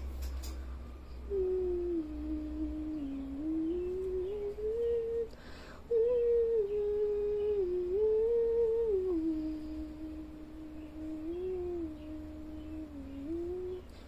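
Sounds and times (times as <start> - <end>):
person humming a slow tune: 1.1 - 14.0.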